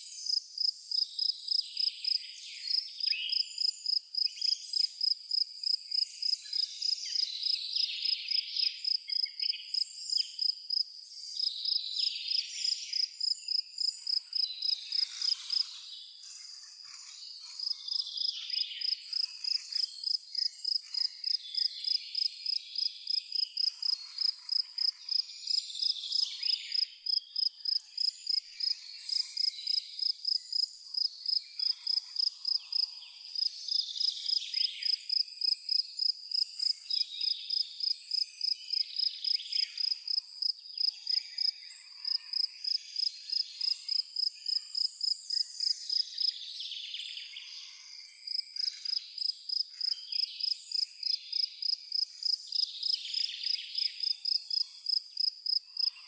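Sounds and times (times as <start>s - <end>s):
cricket chirping: 0.2s - 56.0s.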